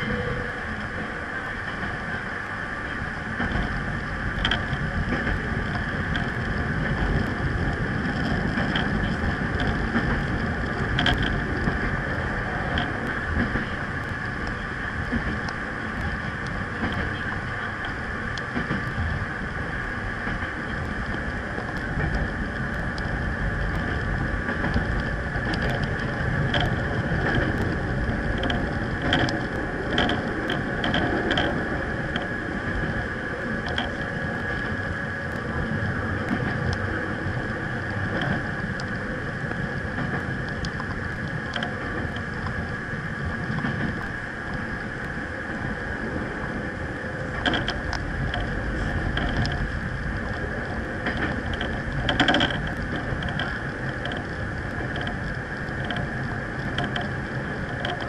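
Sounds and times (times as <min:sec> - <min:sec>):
constant high hum: 0:00.0 - 0:58.0
train wheels rumbling on rail: 0:00.0 - 0:58.0.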